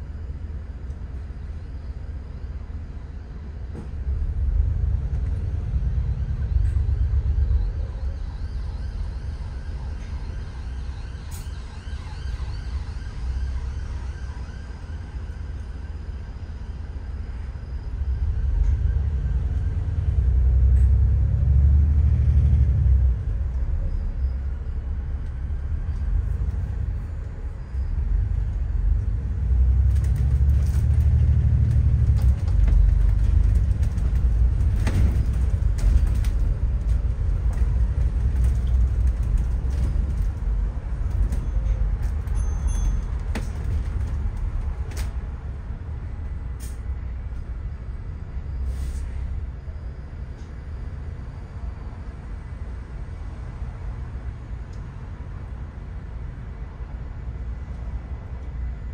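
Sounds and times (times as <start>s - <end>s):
bus engine rumbling: 0.0s - 58.9s.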